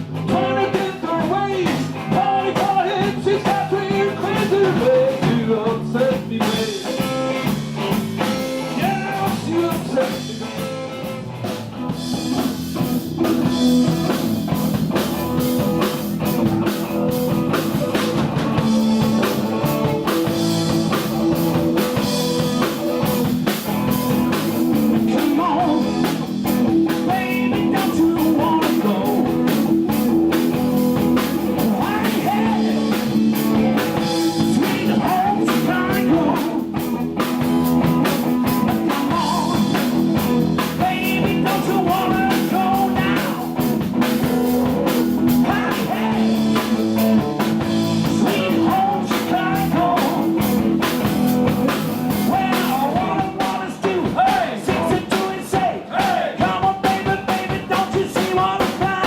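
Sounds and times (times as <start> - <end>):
drum kit: 0.0 - 59.0.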